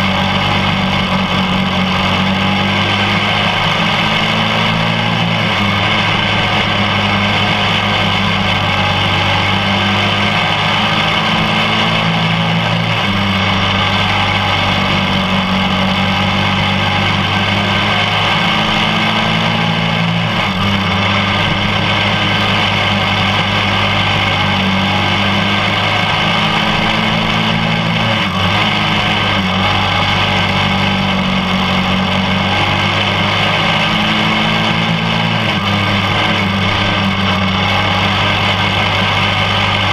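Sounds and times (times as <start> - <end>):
small race car engine running: 0.0 - 39.9.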